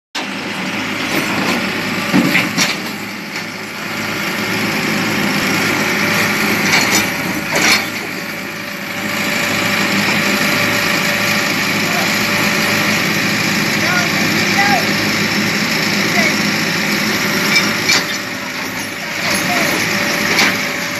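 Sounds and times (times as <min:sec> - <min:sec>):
excavator diesel engine running: 0:00.2 - 0:20.9.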